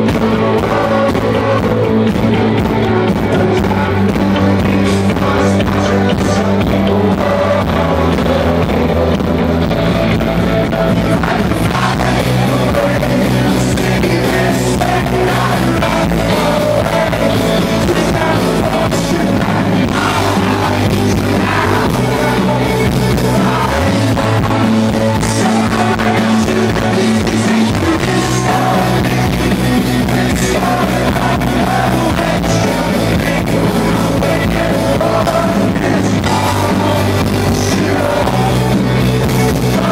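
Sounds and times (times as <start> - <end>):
bass guitar: 0.0 - 39.9
electric guitars: 0.0 - 39.9
person singing: 0.0 - 39.9.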